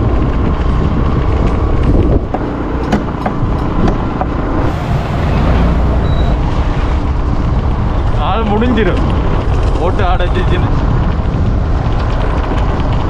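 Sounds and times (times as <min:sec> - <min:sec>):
motorcycle riding: 0:00.0 - 0:13.0
road rumble: 0:00.0 - 0:13.0
wind on microphone: 0:00.0 - 0:13.0.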